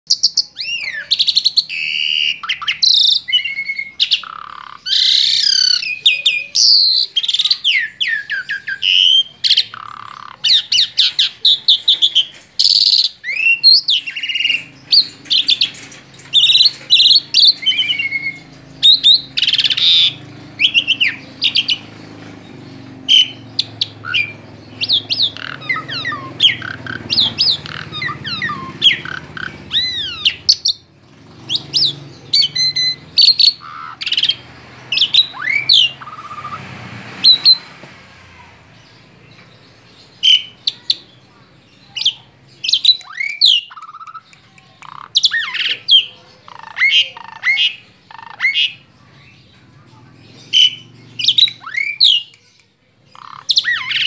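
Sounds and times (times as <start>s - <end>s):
starling singing: 0.1s - 54.0s.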